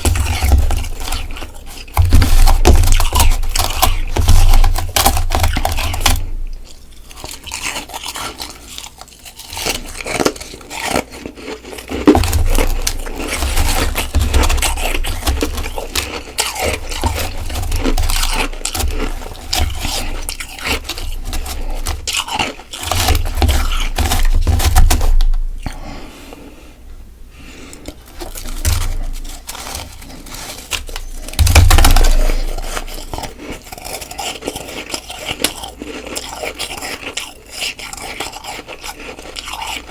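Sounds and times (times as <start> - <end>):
frost crunching in mouth: 0.0 - 25.8, 27.8 - 39.9.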